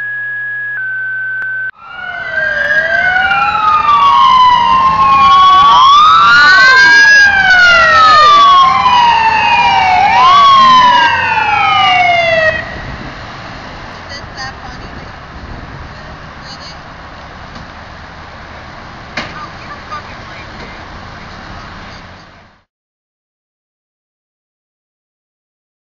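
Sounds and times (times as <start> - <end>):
fire engine sirens wailing: 0.0 - 22.7.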